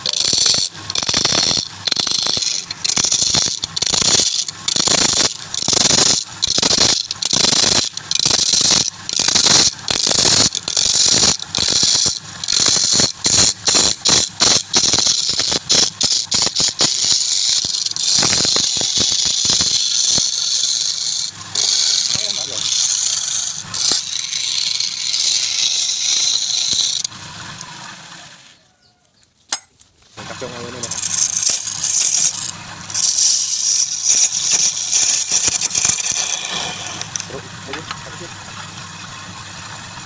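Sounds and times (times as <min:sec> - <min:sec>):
lathe tool cutting wood: 0:00.0 - 0:28.2, 0:30.2 - 0:39.2.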